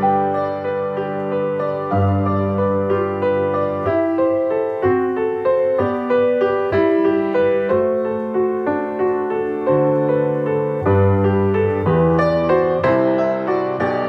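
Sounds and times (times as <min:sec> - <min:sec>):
slow solo piano music: 0:00.0 - 0:14.0.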